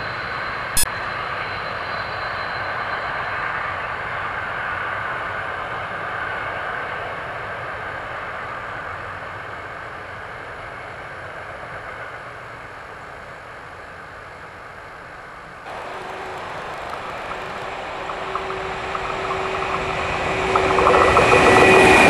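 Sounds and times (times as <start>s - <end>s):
freight train wheel and rail noise: 0.0s - 22.0s.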